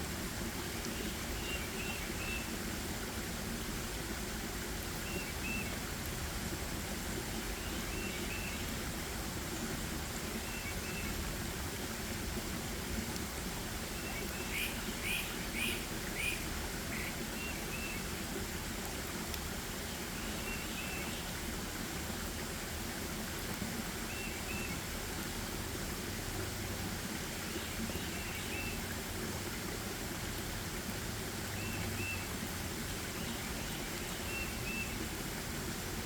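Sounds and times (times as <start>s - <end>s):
steady forest hiss: 0.0s - 36.0s.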